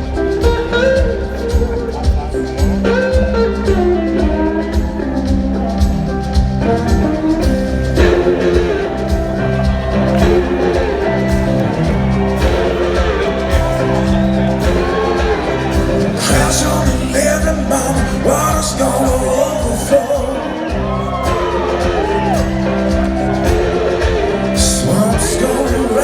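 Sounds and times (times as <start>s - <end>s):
blues-rock band playing live: 0.0s - 26.0s
sliding electric guitar: 0.0s - 26.0s.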